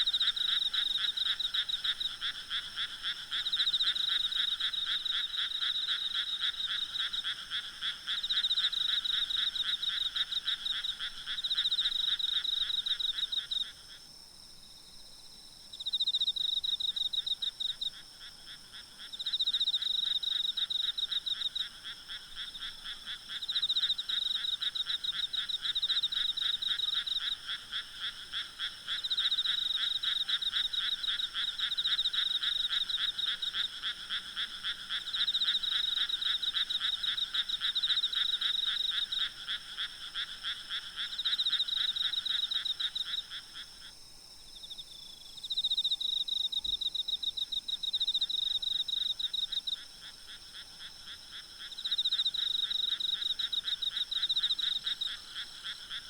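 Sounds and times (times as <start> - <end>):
frogs trilling: 0.0 - 13.9, 15.9 - 44.0, 44.6 - 56.0
insects droning: 0.0 - 56.0.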